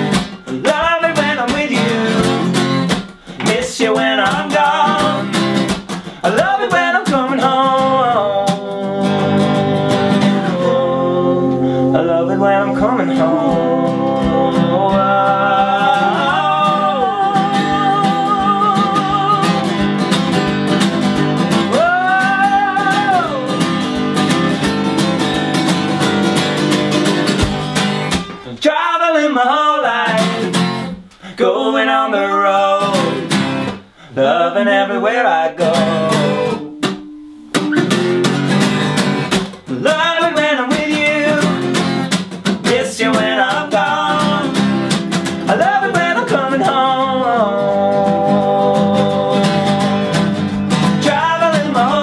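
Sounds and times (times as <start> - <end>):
acoustic guitars strummed and picked: 0.0 - 52.0
men singing: 0.4 - 19.9, 21.5 - 24.0, 28.4 - 36.6, 39.7 - 41.9, 42.6 - 52.0.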